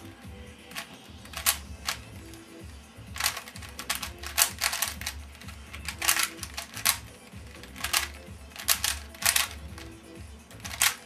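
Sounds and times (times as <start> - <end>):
background music with low bass: 0.0 - 11.0
speedcube plastic clicking: 0.7 - 2.4, 3.1 - 11.0.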